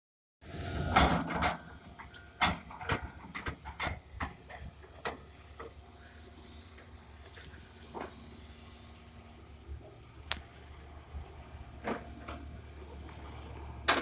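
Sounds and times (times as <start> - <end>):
excavator engine rumble: 0.4 - 14.0.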